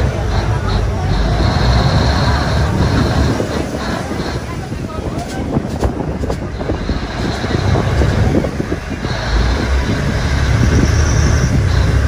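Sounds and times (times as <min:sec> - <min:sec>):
boat engine rumbling: 0:00.0 - 0:12.0
rushing water: 0:00.0 - 0:12.0
wind: 0:00.0 - 0:12.0.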